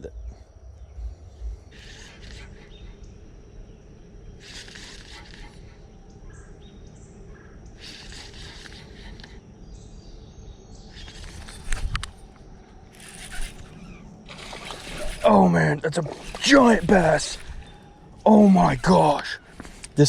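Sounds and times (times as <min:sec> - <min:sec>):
insects buzzing: 0:00.0 - 0:20.0
steady low rumble: 0:00.0 - 0:20.0.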